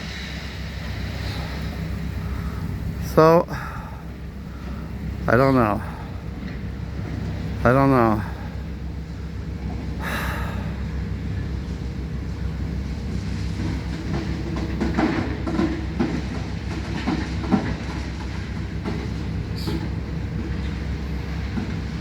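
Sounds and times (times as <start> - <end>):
heavy machinery rumbling: 0.0 - 22.0.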